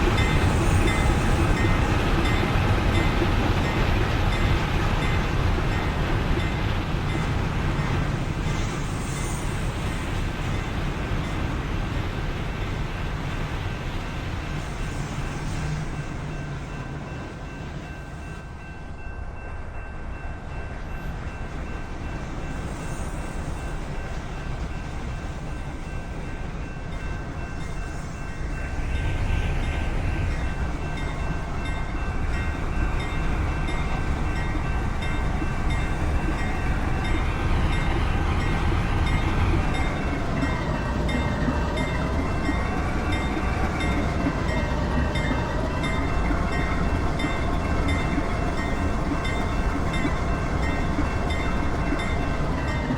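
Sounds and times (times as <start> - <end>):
train rolling by: 0.0 - 52.9.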